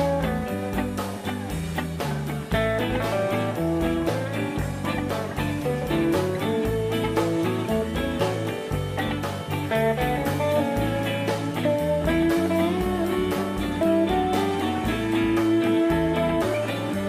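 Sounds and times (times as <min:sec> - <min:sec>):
bass: 0:00.0 - 0:17.0
electric guitar lead: 0:00.0 - 0:17.0
steady drum beat: 0:00.0 - 0:17.0.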